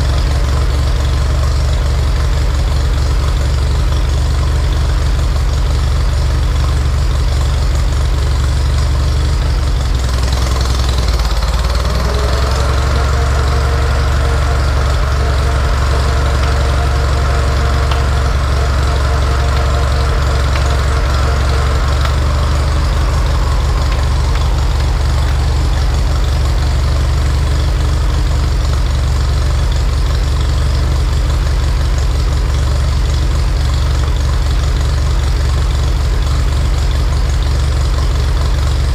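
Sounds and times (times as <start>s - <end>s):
circular saw blade whine: 0.0s - 36.7s
tractor engine idling: 0.0s - 38.9s.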